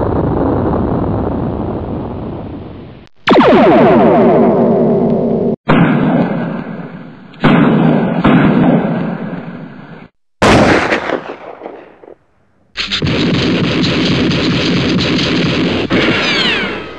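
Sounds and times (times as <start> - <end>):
mortar blasts with rumbling tail: 0.0 - 12.2, 12.9 - 16.9.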